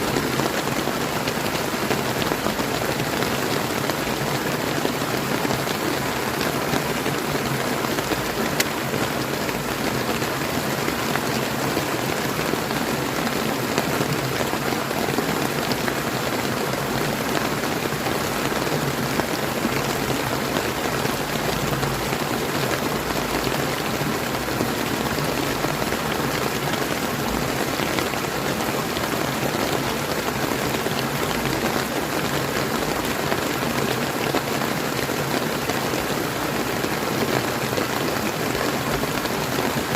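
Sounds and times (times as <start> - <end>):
river flowing: 0.0 - 39.9
steady rain: 0.0 - 39.9.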